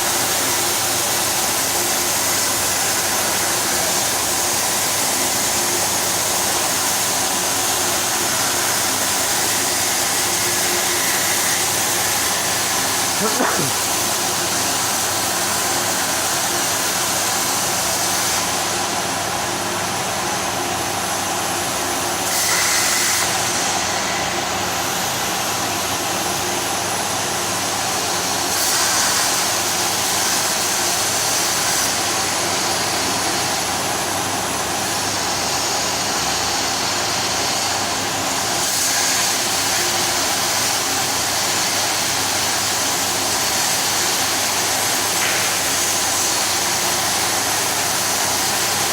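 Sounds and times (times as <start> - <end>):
plasma cutter hissing: 0.1 - 19.2, 22.2 - 25.5, 27.7 - 48.9.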